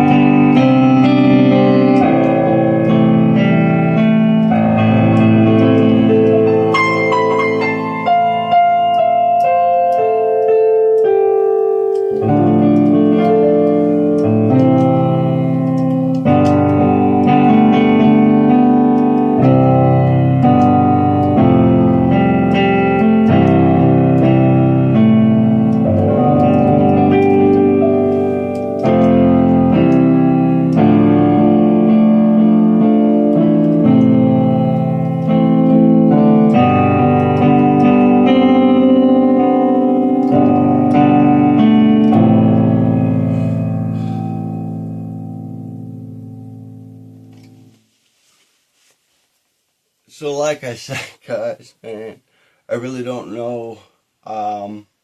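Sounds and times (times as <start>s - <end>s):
piano chords and melody: 0.0s - 47.9s.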